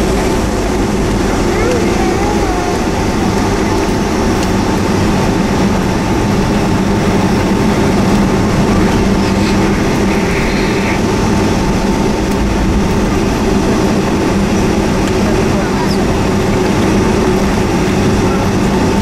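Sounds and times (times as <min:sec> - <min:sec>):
faint engine whine: 0:00.0 - 0:19.0
jet engines hum in cabin: 0:00.0 - 0:19.0.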